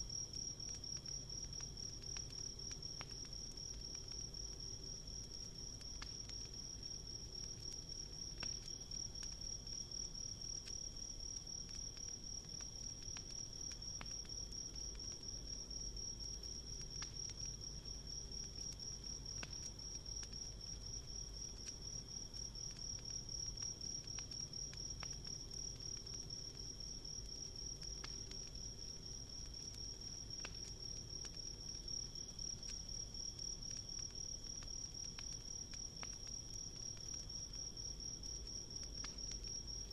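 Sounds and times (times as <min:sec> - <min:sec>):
campfire crackling and popping: 0:00.0 - 0:39.9
faint insect tone: 0:00.0 - 0:39.9.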